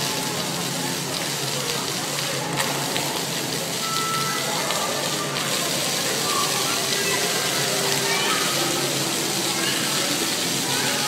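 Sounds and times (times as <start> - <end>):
fountain water splashing on paving: 0.0 - 11.0.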